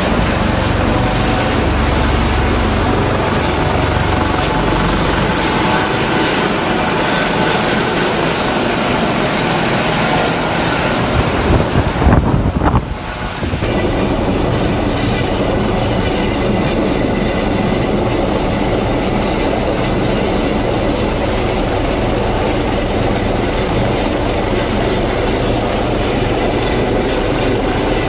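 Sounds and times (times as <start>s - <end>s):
helicopter hovering: 0.0s - 11.4s, 13.6s - 28.0s.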